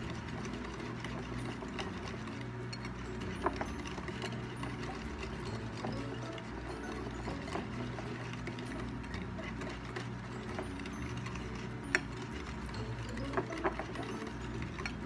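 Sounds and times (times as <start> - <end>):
whisk scraping on a plate: 0.0 - 15.0.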